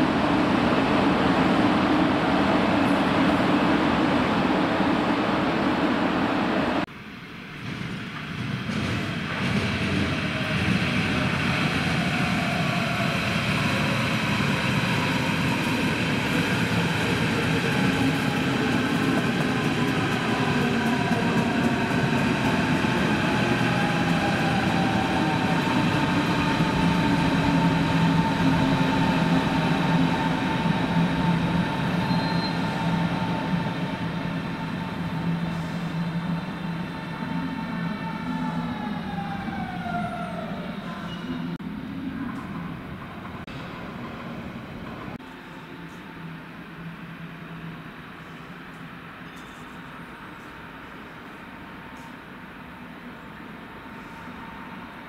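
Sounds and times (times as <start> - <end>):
mainline train: 0.0 - 55.0
train wheels rumbling on rail: 0.0 - 55.0.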